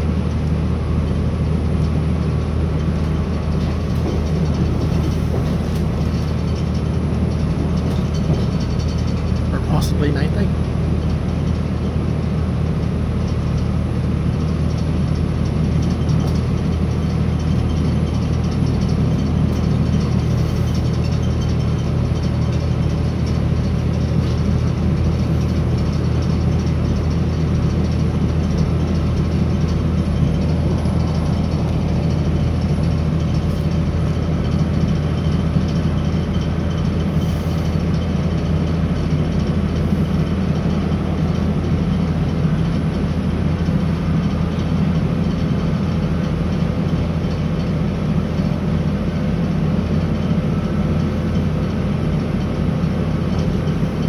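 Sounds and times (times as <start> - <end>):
rail noise: 0.0 - 54.0
train interior drone: 0.0 - 54.0.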